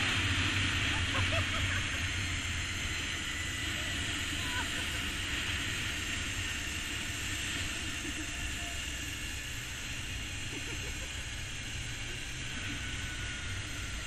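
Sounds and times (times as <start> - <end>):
zipline pulleys whirring on cable: 0.0 - 14.0.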